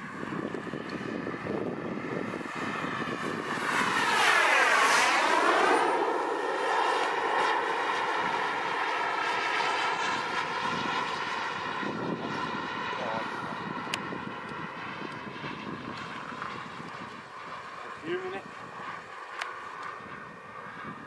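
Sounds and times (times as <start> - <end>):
model jet turbine whining: 0.0 - 21.0.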